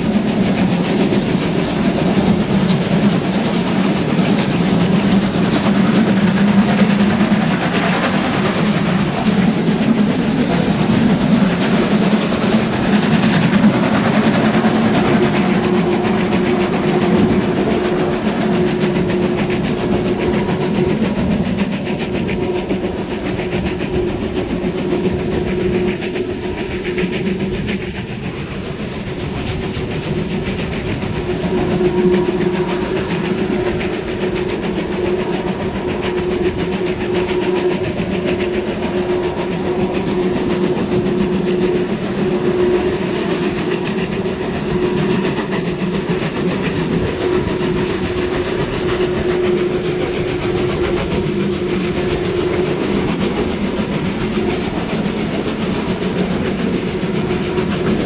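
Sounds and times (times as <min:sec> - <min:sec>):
steam locomotive working: 0:00.0 - 0:58.0
train wheels clattering on rails: 0:00.0 - 0:58.0.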